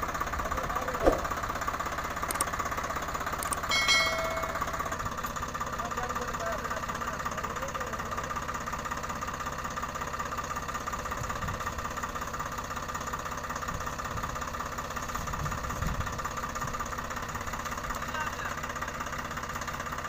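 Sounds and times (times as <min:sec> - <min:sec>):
diesel tractor engines idling: 0:00.0 - 0:20.0.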